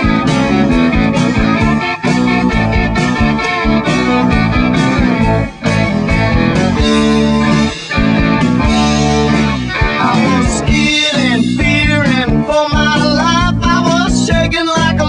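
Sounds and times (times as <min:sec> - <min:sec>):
guitar-led rock music: 0:00.0 - 0:15.0.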